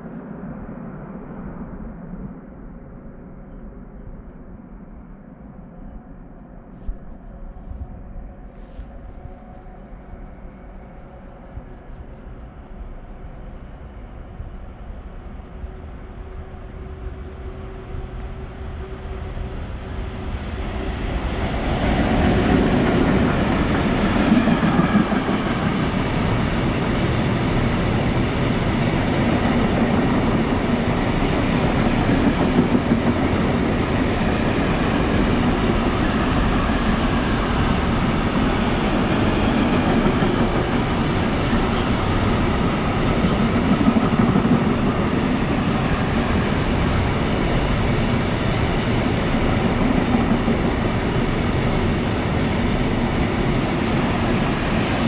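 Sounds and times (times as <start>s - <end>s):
freight train passing: 7.3s - 55.0s.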